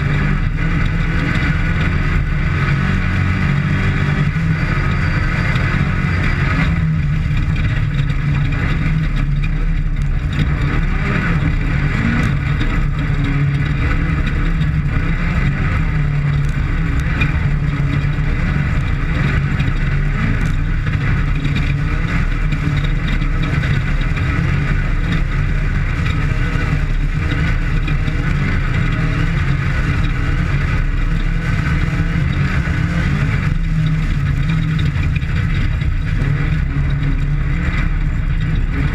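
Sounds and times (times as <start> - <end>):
off-road vehicle engine droning: 0.0 - 38.9.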